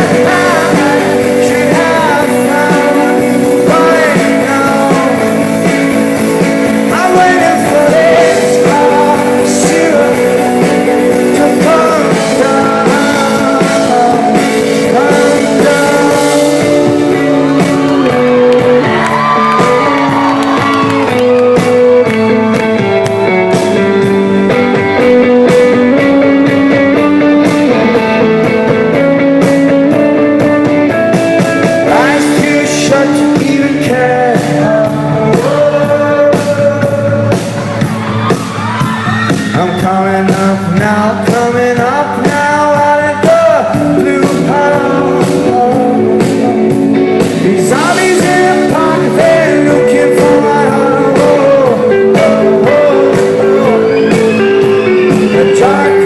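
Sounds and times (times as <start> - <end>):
person singing lead vocal: 0.0 - 22.6, 24.4 - 56.0
rock band playing: 0.0 - 56.0.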